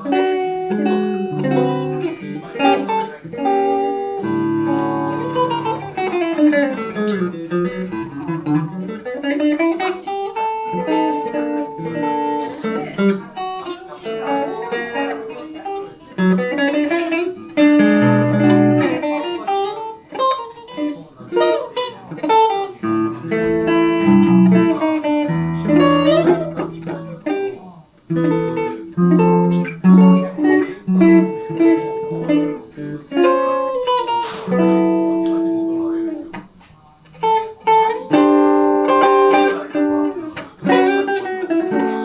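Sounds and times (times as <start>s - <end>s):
electric guitar blues: 0.0s - 42.0s.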